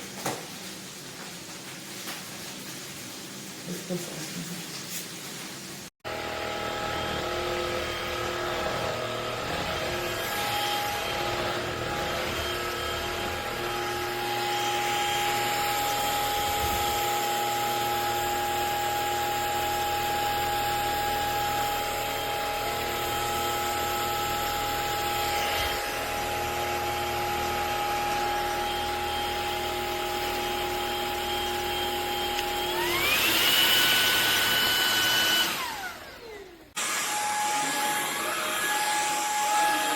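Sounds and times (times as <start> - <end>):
vacuum cleaner motor whining: 6.0 - 39.9.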